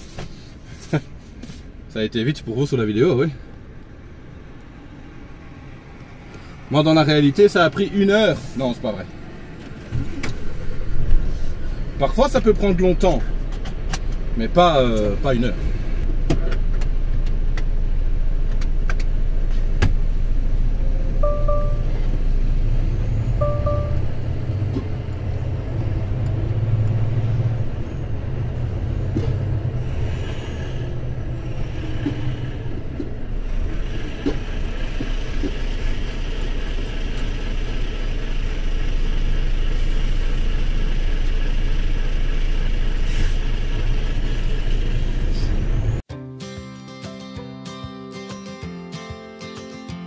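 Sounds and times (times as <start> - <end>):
road noise hiss: 0.0 - 46.0
truck engine rumble: 0.0 - 46.1.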